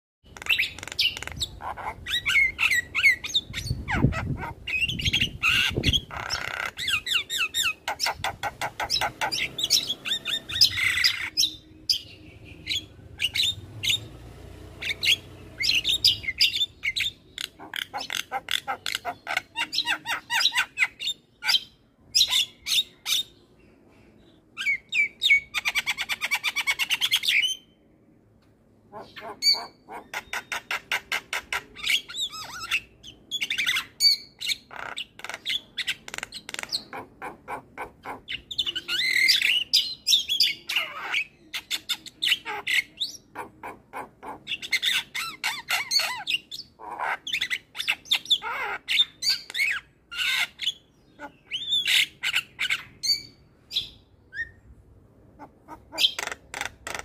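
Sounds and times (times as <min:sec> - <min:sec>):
bird chattering and squawking: 0:00.2 - 0:14.1, 0:14.8 - 0:23.4, 0:24.6 - 0:27.8, 0:28.8 - 0:57.0.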